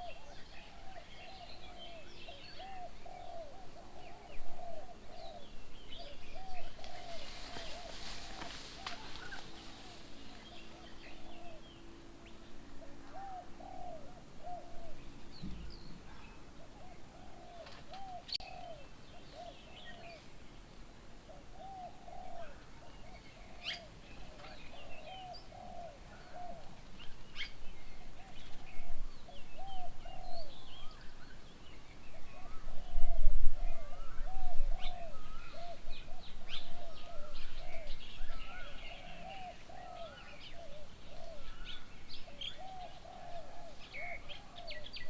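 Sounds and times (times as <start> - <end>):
dove cooing: 0.0 - 20.2, 21.3 - 30.9, 32.1 - 45.0.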